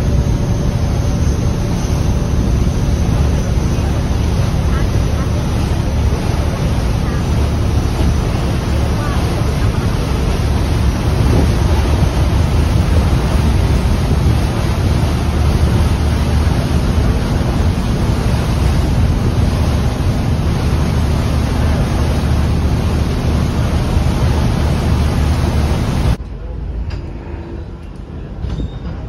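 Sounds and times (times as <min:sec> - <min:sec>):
wind buffeting microphone: 0:00.0 - 0:26.2
water rushing along hull: 0:00.0 - 0:28.4
boat engine drone: 0:00.0 - 0:28.5.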